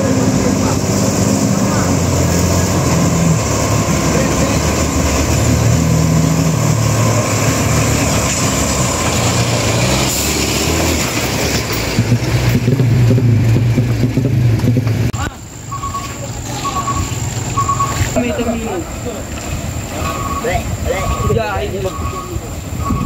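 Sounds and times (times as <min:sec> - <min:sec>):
truck diesel engine climbing: 0:00.0 - 0:23.0
tyre and road noise: 0:00.0 - 0:23.0.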